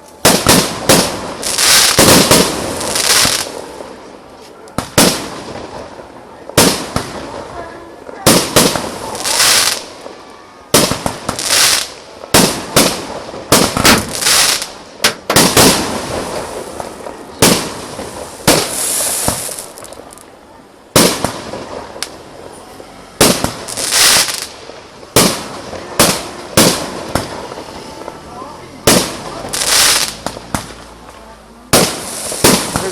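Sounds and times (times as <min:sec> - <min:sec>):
fireworks bangs: 0:00.0 - 0:32.9
fireworks crackling hiss: 0:00.0 - 0:32.9.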